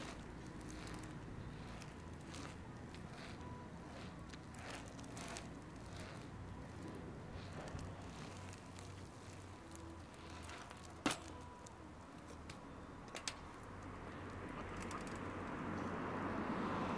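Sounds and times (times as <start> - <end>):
bike clicks: 0.0 - 15.9
outdoor background noise: 0.0 - 16.9.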